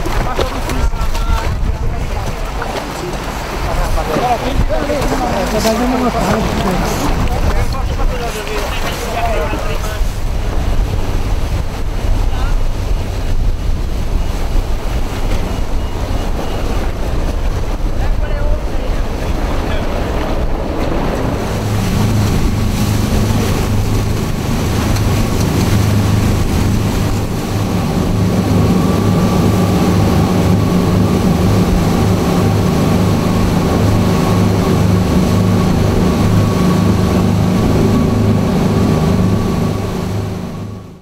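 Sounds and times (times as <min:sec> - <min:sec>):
motorboat engine running: 0:00.0 - 0:41.0
water splashing against hull: 0:00.0 - 0:41.0
wind buffeting microphone: 0:00.0 - 0:41.0.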